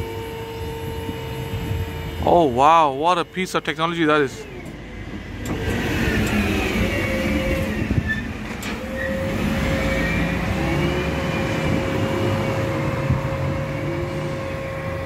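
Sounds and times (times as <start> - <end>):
hydraulic crane whine: 0.0 - 15.0.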